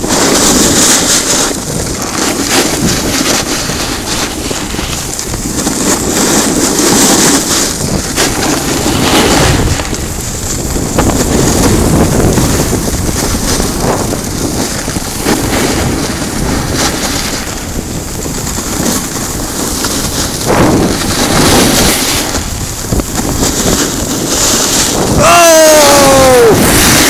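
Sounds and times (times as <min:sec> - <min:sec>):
skis hissing over snow: 0:00.0 - 0:27.0
wind buffeting microphone: 0:00.0 - 0:27.0.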